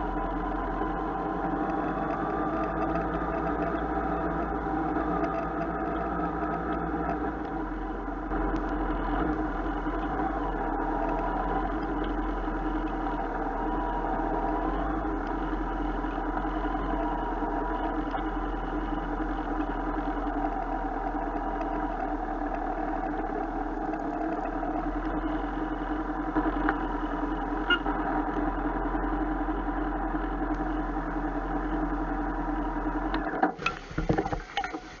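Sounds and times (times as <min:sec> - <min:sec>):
motorcycle engine running: 0:00.0 - 0:33.4.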